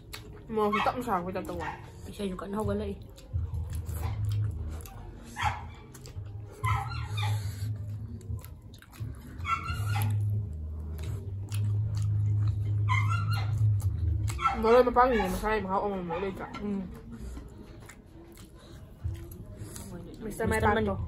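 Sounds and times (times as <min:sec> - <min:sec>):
close chewing and mouth sounds: 0:00.0 - 0:21.0.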